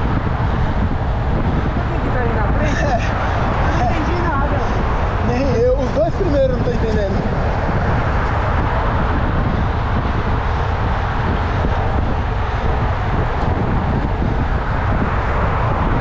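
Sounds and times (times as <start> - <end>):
road traffic passing: 0.0 - 16.0
wind rushing over microphone: 0.0 - 16.0.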